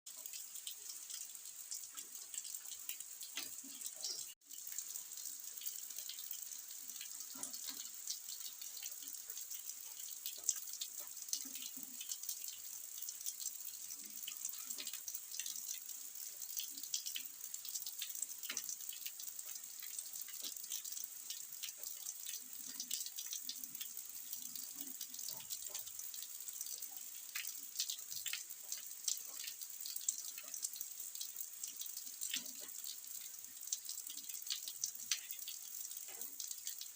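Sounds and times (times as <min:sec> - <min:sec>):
raindrops pattering: 0:00.1 - 0:36.9
steady rain: 0:00.1 - 0:36.9.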